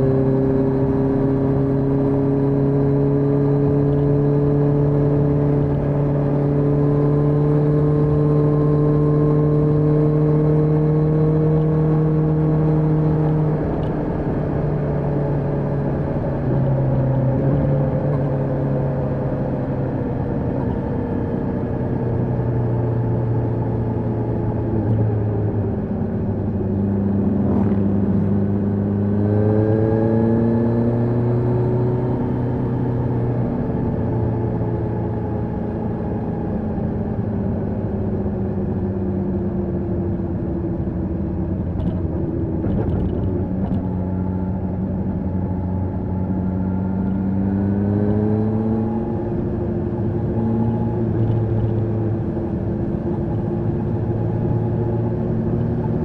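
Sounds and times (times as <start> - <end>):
motorcycle engine revving while riding: 0.0 - 56.0.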